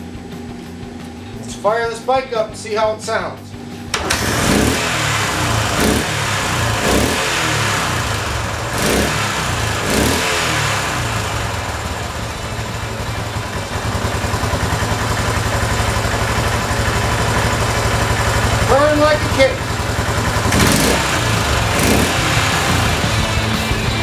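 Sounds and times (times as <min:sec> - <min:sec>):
motorcycle engine revving and idling: 0:00.0 - 0:02.8, 0:03.4 - 0:24.0.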